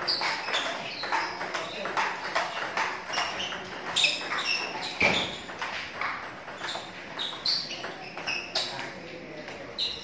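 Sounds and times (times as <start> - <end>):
table tennis balls knocking: 0.0 - 9.6.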